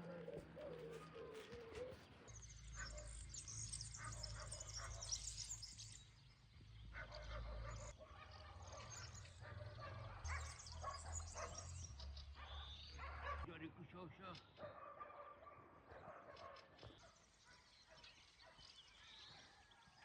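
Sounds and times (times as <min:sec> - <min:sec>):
small songbirds chirping: 0:00.0 - 0:20.0.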